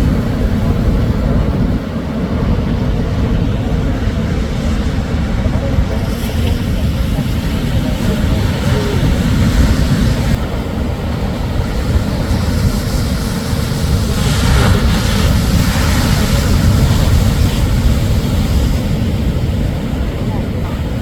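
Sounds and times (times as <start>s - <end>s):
low rumble of surf: 0.0s - 21.0s
wave breaking and washing in: 0.0s - 21.0s.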